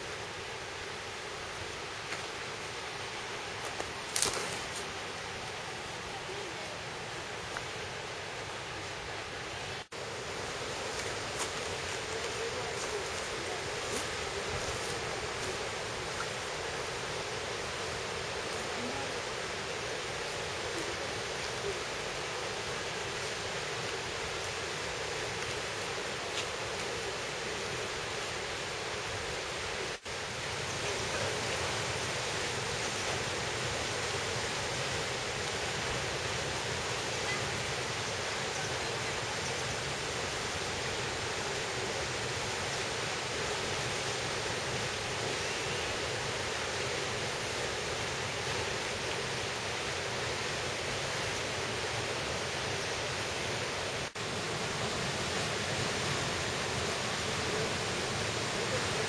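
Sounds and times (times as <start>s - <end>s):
waterfall roar: 0.0s - 59.0s.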